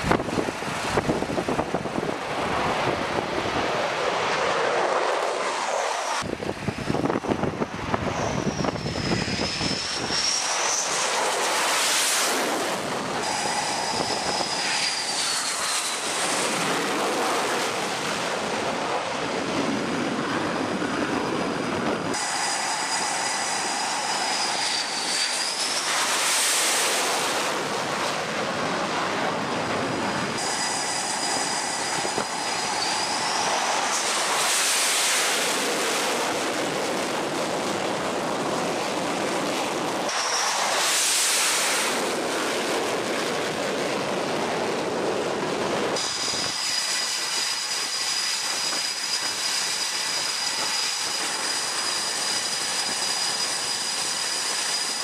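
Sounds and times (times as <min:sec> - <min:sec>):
jet engines with turbine whine: 0:00.0 - 0:55.0
jets passing close: 0:00.1 - 0:55.0.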